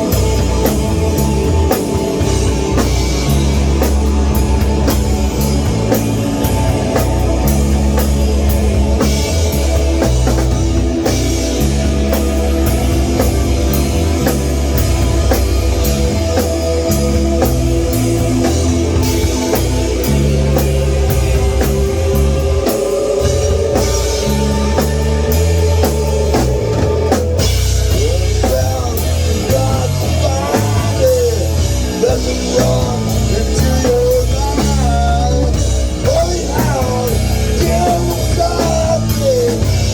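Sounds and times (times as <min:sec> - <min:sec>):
bending pitched guitar lines: 0:00.0 - 0:39.9
rock band playing: 0:00.0 - 0:39.9.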